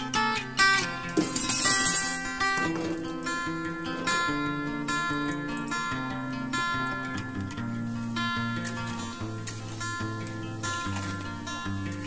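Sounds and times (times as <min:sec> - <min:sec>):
plucked and strummed guitar: 0:00.0 - 0:12.0.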